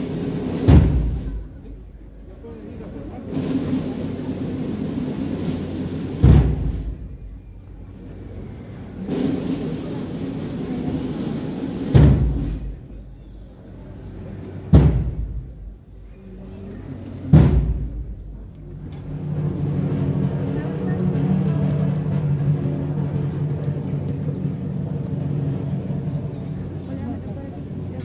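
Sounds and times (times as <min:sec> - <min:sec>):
bass drum and cymbal strike: 0:03.3 - 0:13.1, 0:13.7 - 0:27.8.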